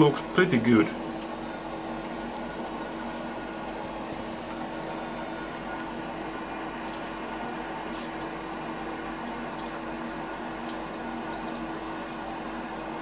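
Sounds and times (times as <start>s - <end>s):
milling machine hum: 0.0s - 13.0s.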